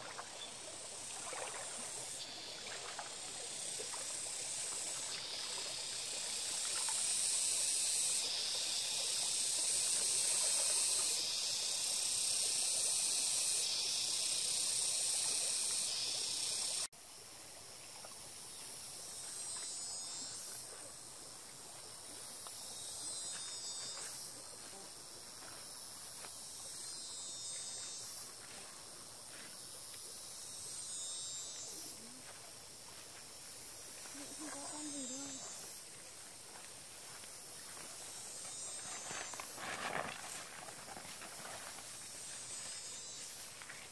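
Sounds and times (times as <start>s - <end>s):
insect chorus high-pitched buzz: 0.0s - 43.9s.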